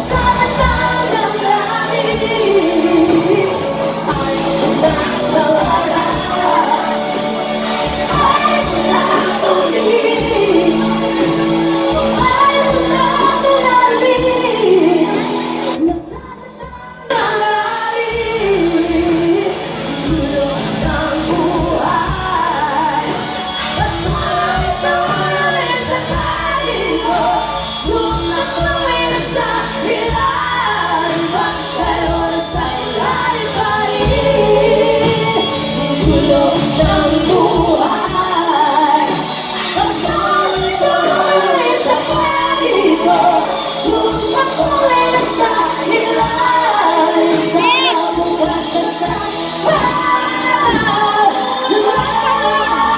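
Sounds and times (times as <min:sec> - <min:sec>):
bass guitar: 0:00.0 - 0:52.9
electric guitar: 0:00.0 - 0:52.9
women singing together: 0:00.0 - 0:52.9.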